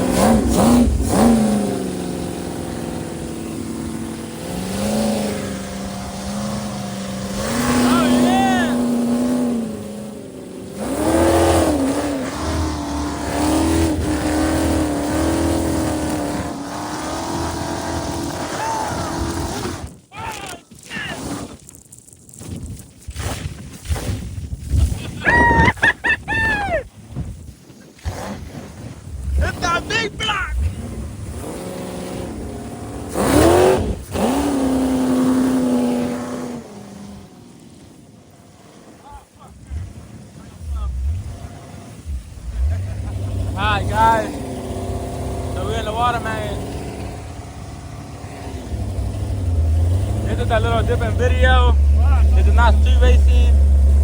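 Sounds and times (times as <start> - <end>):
engine running at high revs: 0.0 - 20.0, 28.0 - 54.0.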